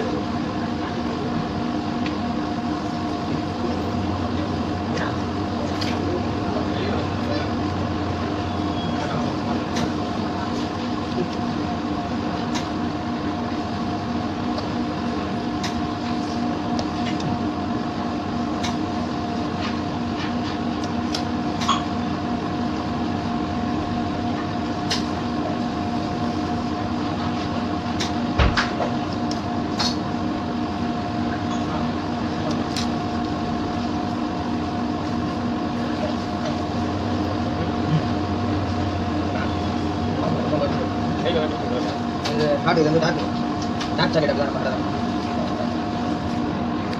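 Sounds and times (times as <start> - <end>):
steady mechanical hum: 0.0 - 46.9.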